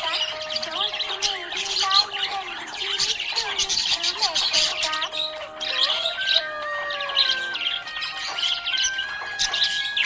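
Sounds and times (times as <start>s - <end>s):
budgerigar chirping and warbling: 0.0s - 10.0s
slow background music: 0.0s - 10.0s.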